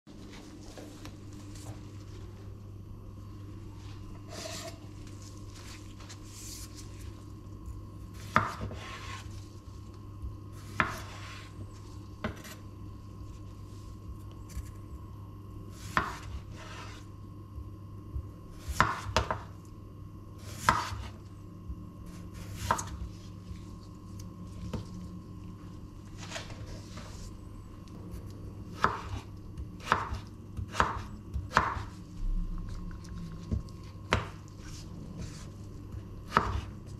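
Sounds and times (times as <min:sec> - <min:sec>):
steady low hum: 0:00.1 - 0:36.9.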